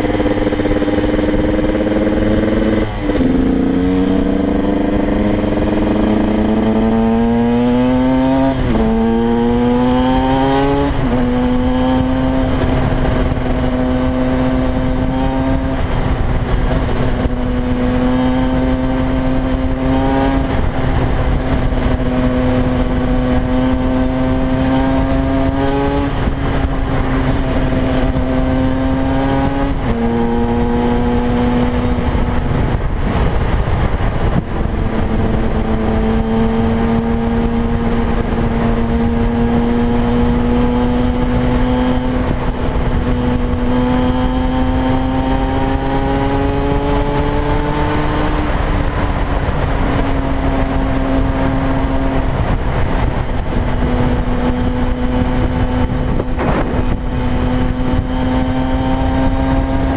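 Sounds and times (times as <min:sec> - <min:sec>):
steady rushing noise: 0:00.0 - 0:59.9
two-stroke motorcycle engine running: 0:00.0 - 0:59.9.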